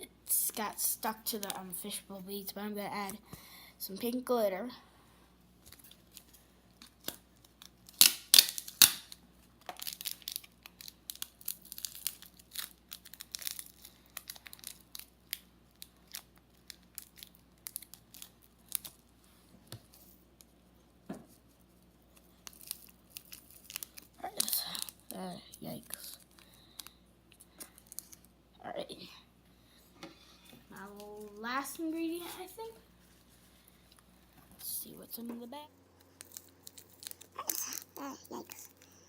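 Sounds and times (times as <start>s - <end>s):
slime ingredients crinkling: 0.3s - 4.4s, 5.5s - 28.4s, 30.2s - 35.2s, 35.8s - 39.0s.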